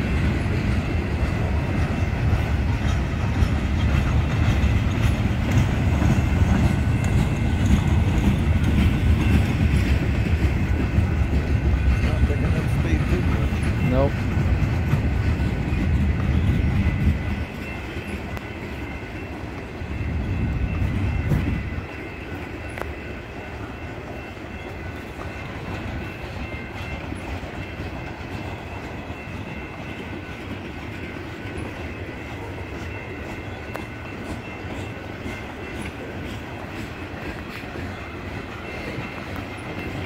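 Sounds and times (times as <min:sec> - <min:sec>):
freight train cars rolling: 0:00.0 - 0:40.0
wheels clickety-clack: 0:00.0 - 0:40.0.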